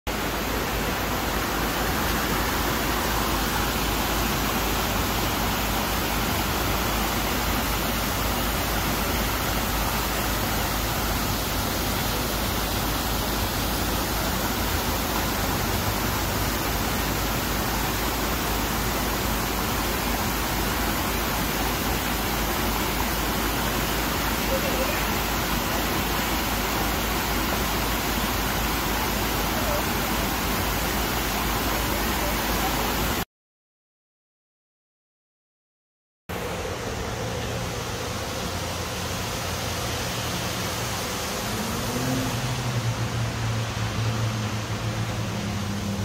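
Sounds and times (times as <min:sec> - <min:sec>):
water rushing over rocks: 0:00.1 - 0:33.2, 0:36.3 - 0:46.0.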